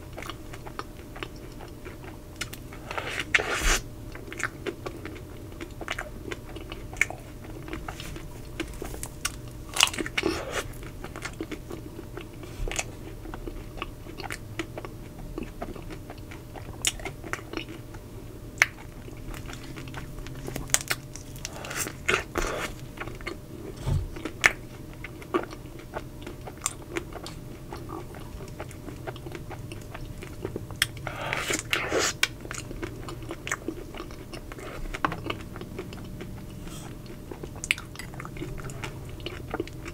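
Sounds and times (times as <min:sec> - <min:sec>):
chewing ice cream bar: 0:00.0 - 0:39.9.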